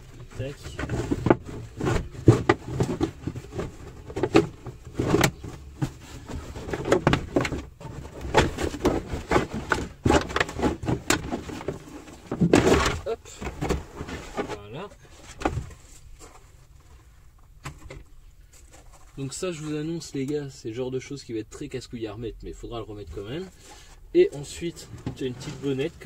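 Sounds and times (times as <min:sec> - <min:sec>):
carpet lining rustling and scraping: 0:00.0 - 0:17.4, 0:18.2 - 0:20.3, 0:23.1 - 0:26.0.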